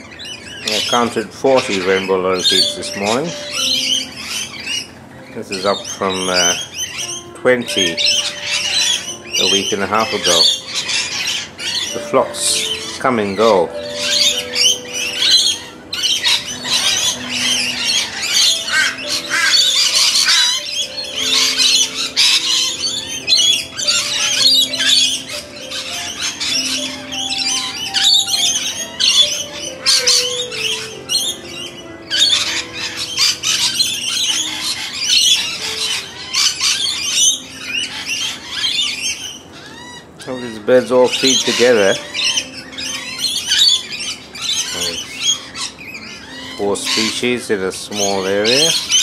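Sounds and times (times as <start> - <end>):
birds screeching and chattering: 0.0 - 49.0
slow background music: 0.0 - 49.0.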